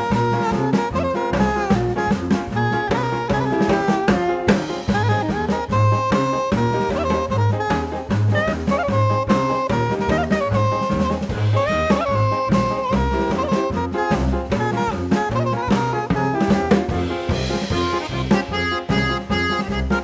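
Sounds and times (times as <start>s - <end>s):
drum kit steady beat: 0.0s - 20.0s
saxophone-like lead melody: 0.0s - 20.0s
walking bass: 0.0s - 20.0s.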